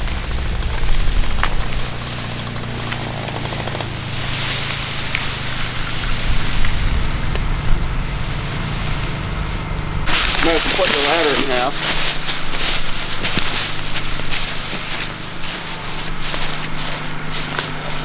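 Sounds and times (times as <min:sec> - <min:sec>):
dragged leaves and brush rustling: 0:00.0 - 0:18.0
utility vehicle engine running: 0:00.0 - 0:18.0.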